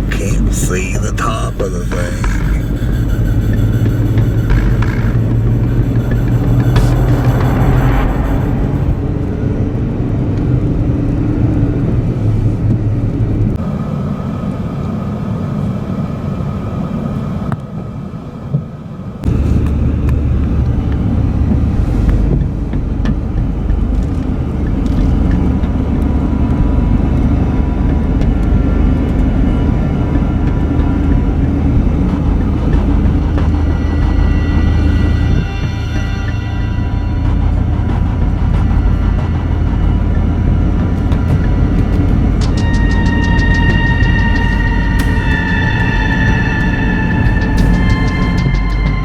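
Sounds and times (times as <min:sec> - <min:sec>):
car interior rumble: 0:00.0 - 0:16.0, 0:19.2 - 0:49.0.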